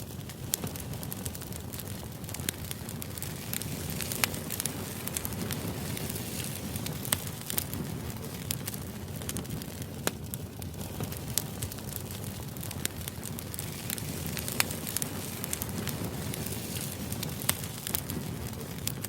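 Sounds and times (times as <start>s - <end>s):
sharp crackles and pops: 0.0s - 19.0s.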